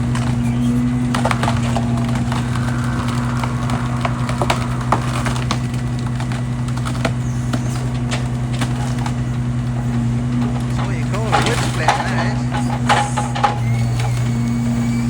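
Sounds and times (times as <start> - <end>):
wood chipper droning: 0.0 - 15.0.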